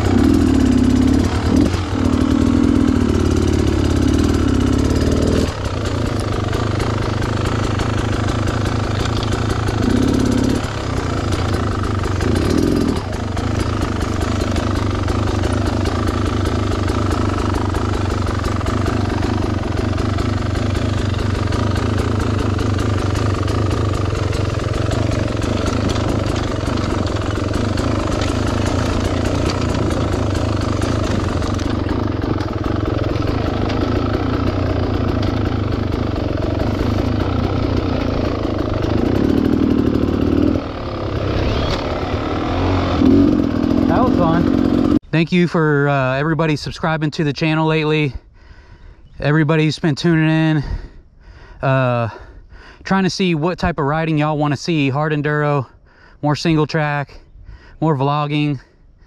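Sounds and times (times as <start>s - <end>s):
two-stroke dirt bike engine: 0.0s - 51.0s, 51.6s - 58.7s.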